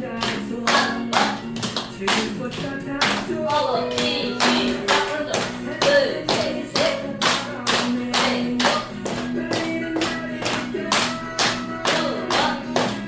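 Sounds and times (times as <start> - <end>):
music with sung melody: 0.0 - 13.0
sharp hand claps: 0.1 - 3.4, 4.0 - 13.0.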